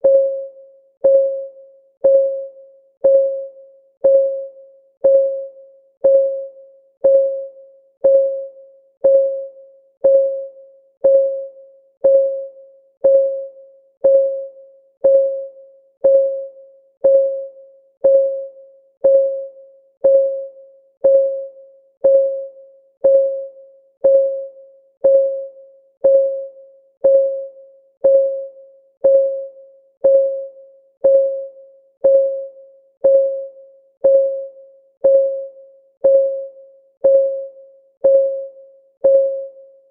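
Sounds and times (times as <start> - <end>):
clock ticking with ringing tone: 0.0 - 39.9.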